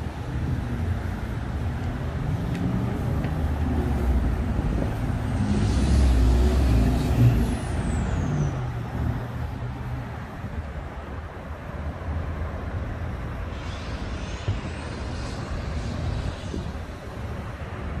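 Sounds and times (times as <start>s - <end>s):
heavy vehicle engine rumble: 0.0s - 18.0s.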